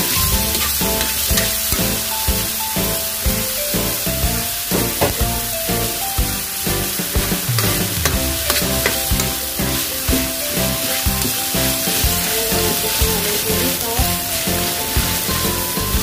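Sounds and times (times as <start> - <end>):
background music: 0.0 - 16.0
oil sizzling in a pan: 0.0 - 16.0.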